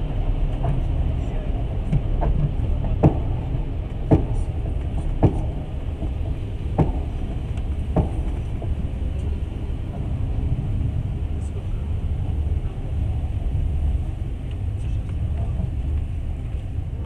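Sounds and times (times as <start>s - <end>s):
train running gear rumble: 0.0s - 17.0s
wheels clacking: 0.0s - 17.0s.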